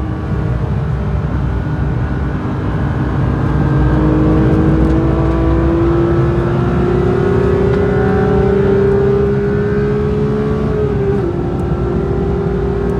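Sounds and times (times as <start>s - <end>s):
car engine accelerating: 0.0s - 12.9s.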